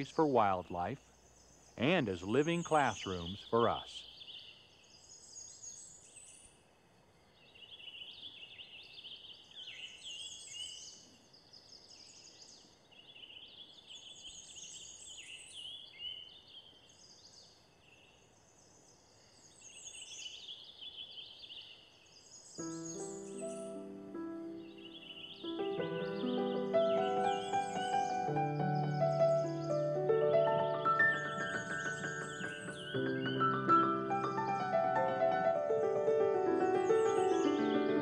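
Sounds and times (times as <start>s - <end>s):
songbird singing: 0.0s - 38.0s.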